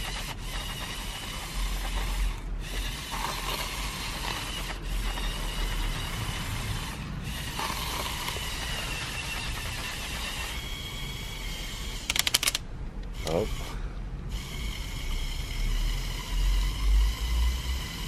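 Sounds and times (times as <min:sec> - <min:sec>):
toy motors whirring and clicking: 0:00.0 - 0:18.0.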